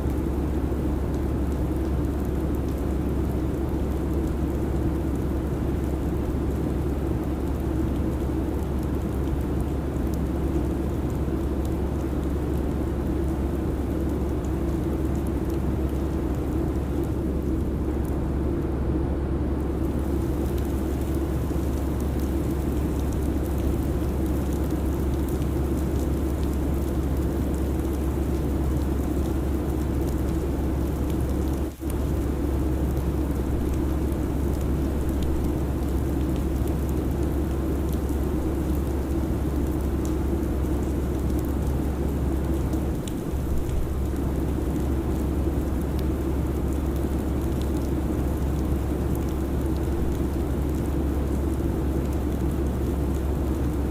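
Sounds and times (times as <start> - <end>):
constant low hum: 0.0 - 53.9.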